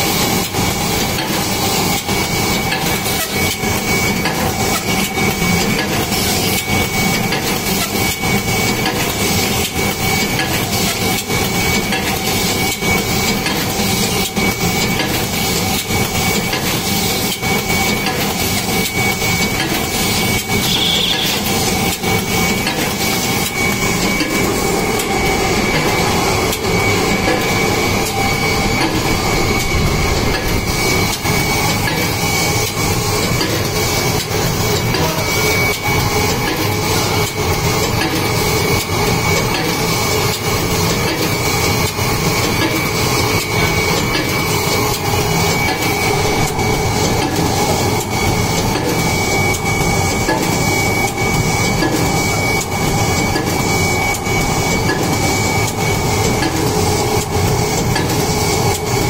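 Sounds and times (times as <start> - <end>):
steady high-pitched tone: 0.0 - 59.0.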